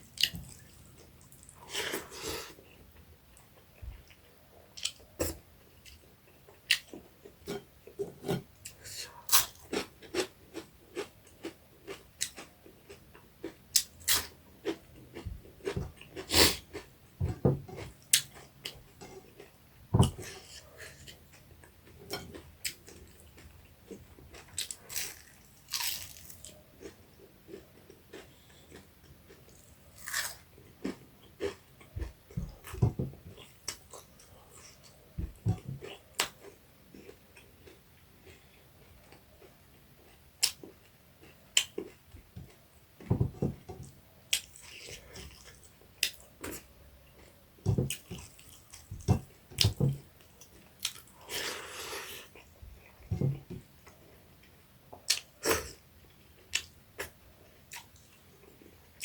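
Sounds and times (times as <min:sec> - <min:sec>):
person chewing crunchy food: 0:00.1 - 0:02.8, 0:03.8 - 0:42.6, 0:44.3 - 0:54.2.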